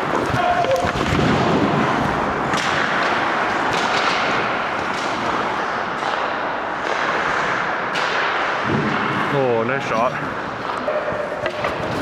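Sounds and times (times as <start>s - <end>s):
arena noise: 0.0s - 12.0s
skates and sticks scraping ice: 0.0s - 12.0s.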